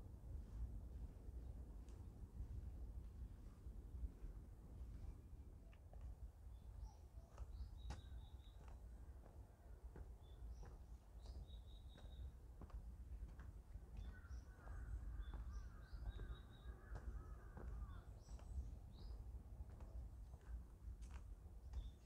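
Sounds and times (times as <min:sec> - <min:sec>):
soft footsteps on forest path: 0:00.3 - 0:22.0.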